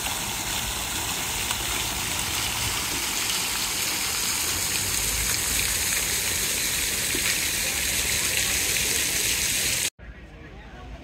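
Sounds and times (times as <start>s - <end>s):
fountain water splashing: 0.0s - 9.9s.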